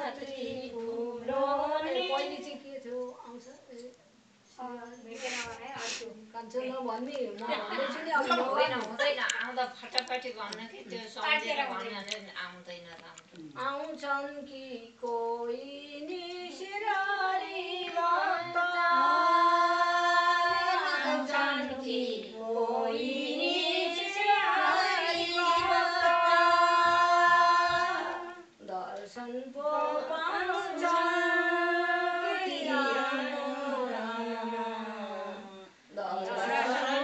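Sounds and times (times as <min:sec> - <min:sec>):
women singing in unison: 0:00.0 - 0:03.9, 0:06.1 - 0:09.0, 0:13.6 - 0:37.0.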